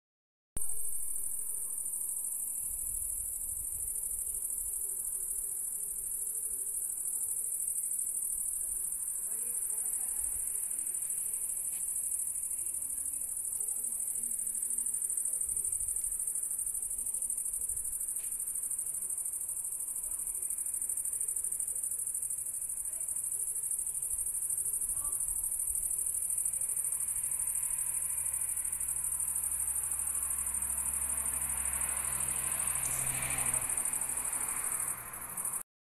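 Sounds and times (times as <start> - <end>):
crickets chirping: 0.6 - 35.6.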